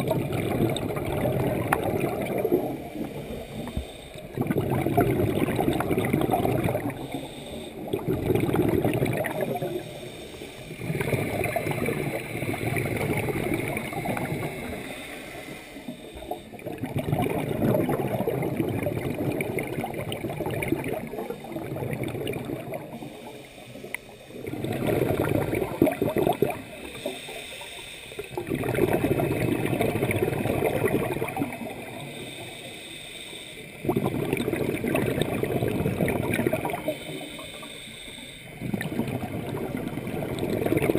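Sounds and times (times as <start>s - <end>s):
underwater exhaled bubbles gurgling: 0.0s - 40.9s.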